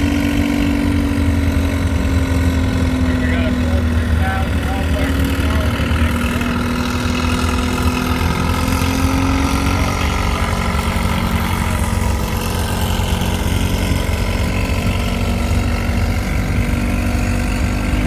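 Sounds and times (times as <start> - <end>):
tractor engines droning: 0.0 - 18.0.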